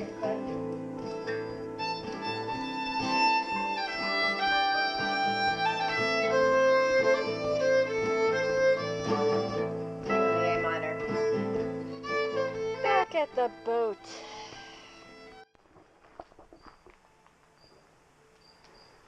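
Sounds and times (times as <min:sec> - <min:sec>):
fiddle melody: 0:00.0 - 0:15.5
guitar accompaniment: 0:00.0 - 0:15.5.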